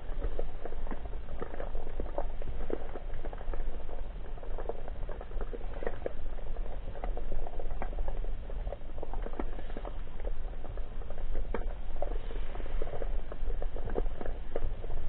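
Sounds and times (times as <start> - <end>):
steady low rumble: 0.0 - 15.0
underwater crackle of clicks: 0.0 - 15.0.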